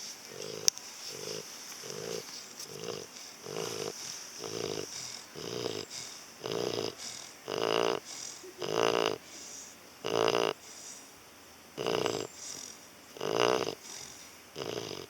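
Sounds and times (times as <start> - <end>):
dog snoring: 0.0 - 11.1, 11.8 - 15.0.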